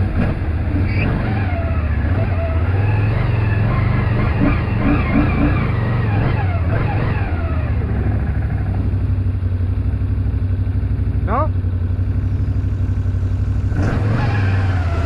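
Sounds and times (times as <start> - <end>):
quad bike engine revving: 0.0 - 9.1, 11.1 - 15.0.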